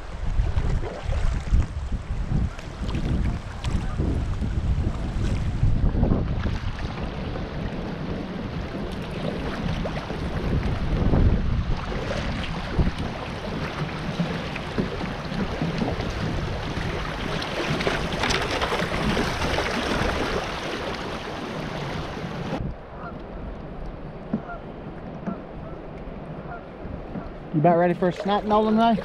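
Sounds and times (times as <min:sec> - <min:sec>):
river water splashing around kayak: 0:00.0 - 0:29.0.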